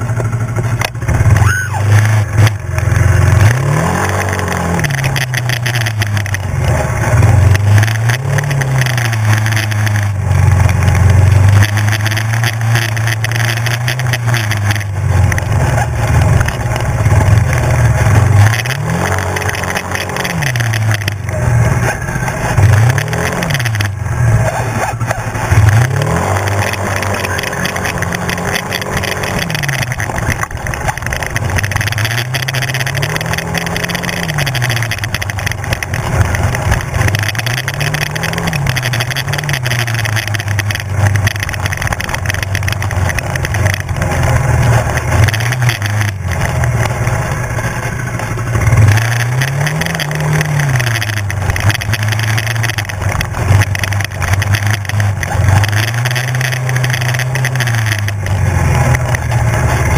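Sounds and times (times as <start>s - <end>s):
quad engine revving: 0.0s - 59.9s
wind and rough ground noise: 0.0s - 59.9s.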